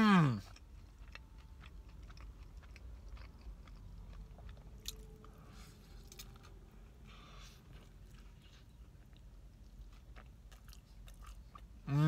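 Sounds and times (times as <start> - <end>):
chewing pizza crust: 0.0 - 12.0.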